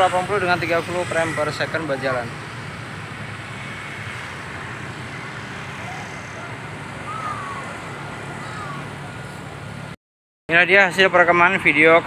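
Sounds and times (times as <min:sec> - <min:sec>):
cars passing: 0:00.0 - 0:12.0
motorbikes passing: 0:00.0 - 0:12.0.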